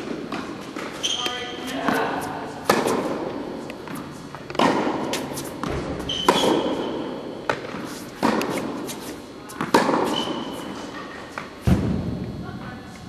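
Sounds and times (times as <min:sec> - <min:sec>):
tennis balls hit with racket: 0:00.0 - 0:12.3.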